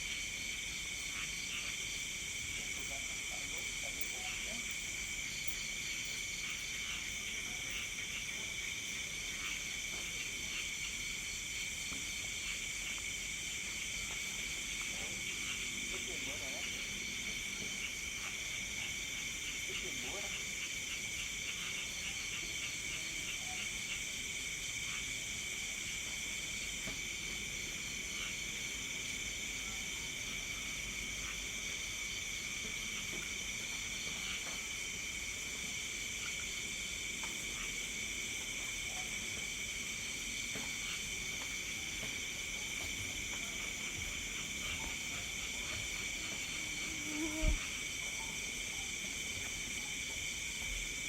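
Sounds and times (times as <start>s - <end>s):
crickets and insects trilling: 0.0s - 51.0s.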